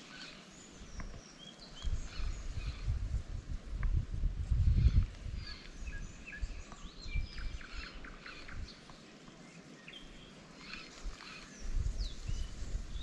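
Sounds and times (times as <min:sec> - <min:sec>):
small birds chirping and singing: 0:00.0 - 0:13.0.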